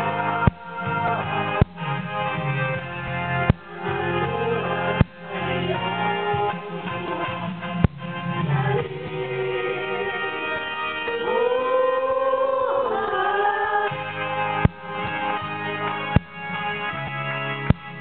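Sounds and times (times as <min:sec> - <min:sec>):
women singing through microphones: 0:00.0 - 0:02.7, 0:03.4 - 0:15.2
electronic keyboard: 0:00.0 - 0:18.0.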